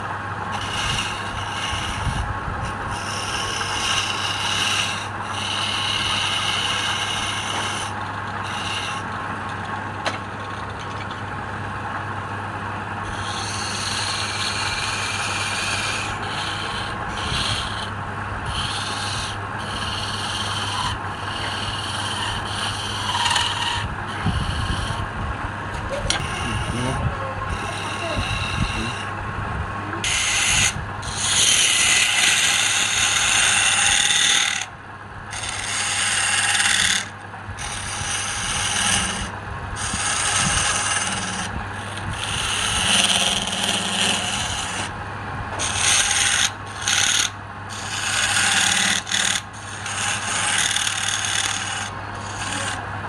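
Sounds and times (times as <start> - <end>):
tool rubbing spinning wood: 0.0 - 11.9, 12.6 - 53.0
lathe motor hum: 0.0 - 53.0.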